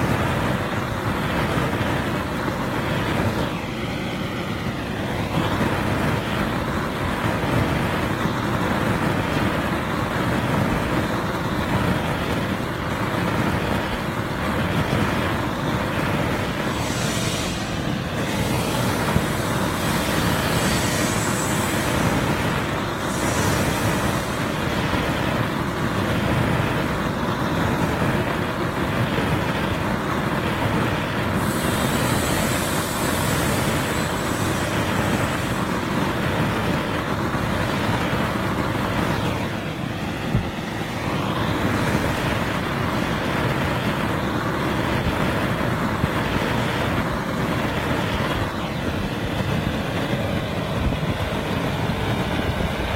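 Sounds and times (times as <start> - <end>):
blowtorch hissing: 0.0 - 52.9.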